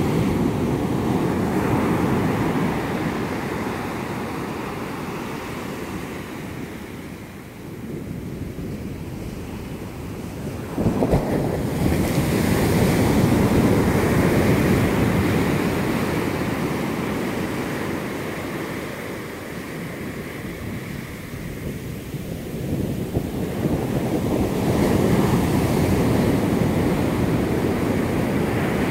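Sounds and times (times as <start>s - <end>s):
ocean waves crashing on beach: 0.0s - 28.9s.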